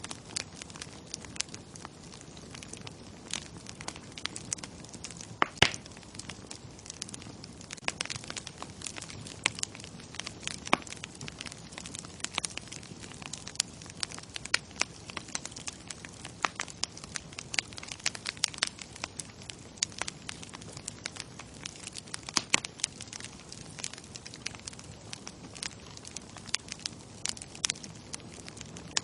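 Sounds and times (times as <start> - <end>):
bonfire wood popping and snapping: 0.0 - 29.0
fire hissing: 0.0 - 29.0.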